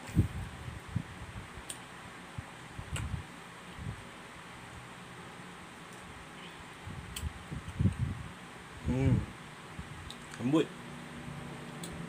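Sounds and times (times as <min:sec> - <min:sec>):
fan hiss: 0:00.0 - 0:12.0.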